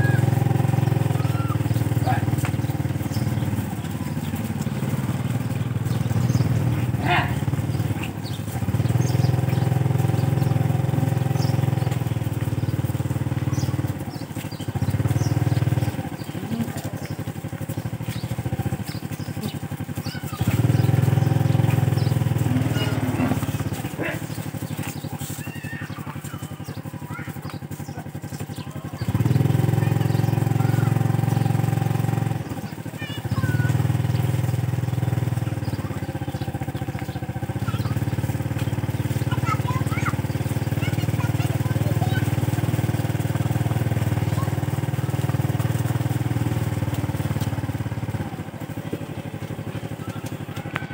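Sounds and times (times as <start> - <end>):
small engine running: 0.0 - 50.9.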